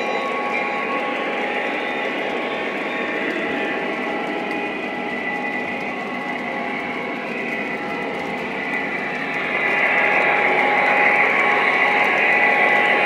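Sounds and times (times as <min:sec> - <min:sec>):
model train wheels rumbling on track: 0:00.0 - 0:13.0.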